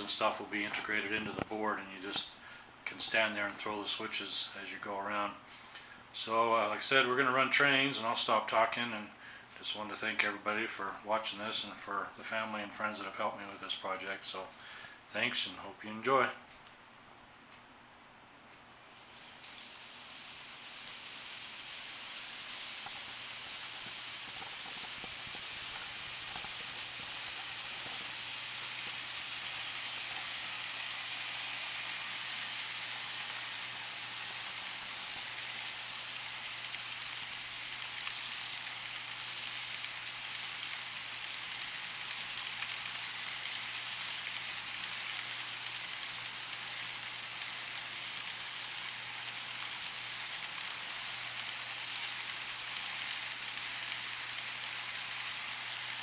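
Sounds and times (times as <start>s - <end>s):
model train wheels whirring on rail: 0.0s - 14.5s, 19.0s - 56.0s.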